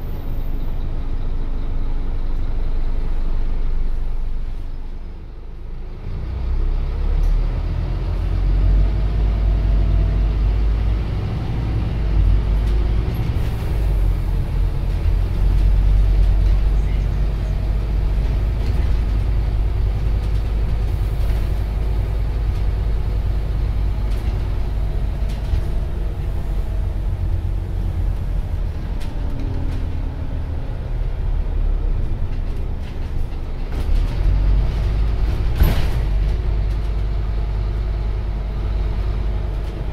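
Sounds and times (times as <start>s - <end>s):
diesel engine drone: 0.0s - 39.9s
road noise: 0.0s - 39.9s.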